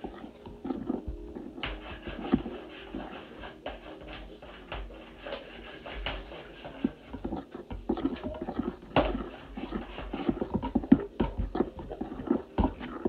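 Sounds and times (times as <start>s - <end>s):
spoon stirring in plastic bowl: 0.0s - 13.0s.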